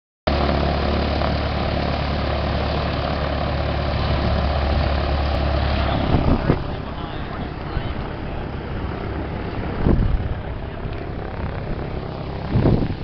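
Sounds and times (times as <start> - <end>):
broad rushing noise: 0.3 - 13.0
engine idling with low hum: 0.3 - 13.0.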